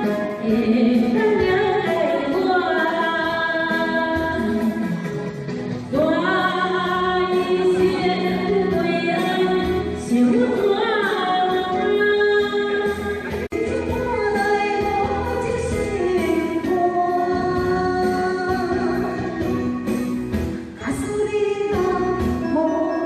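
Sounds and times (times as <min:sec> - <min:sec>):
women singing a slow ballad: 0:00.0 - 0:05.1, 0:05.9 - 0:20.0
instrumental backing music: 0:00.0 - 0:23.0.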